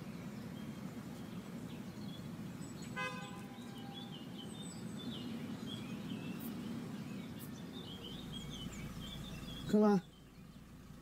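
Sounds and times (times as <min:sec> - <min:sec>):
low street ambience hum: 0:00.0 - 0:11.0
small birds chirping: 0:00.0 - 0:11.0.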